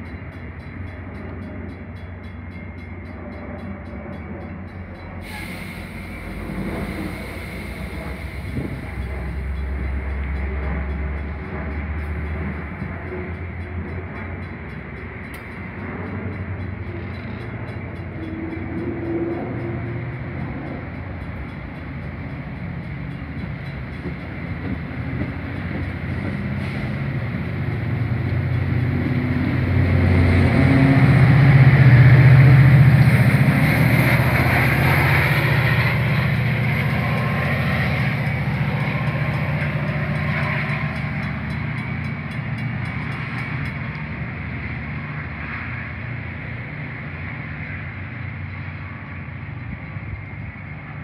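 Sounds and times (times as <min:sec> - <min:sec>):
diesel locomotive engine drone: 0:00.0 - 0:51.0.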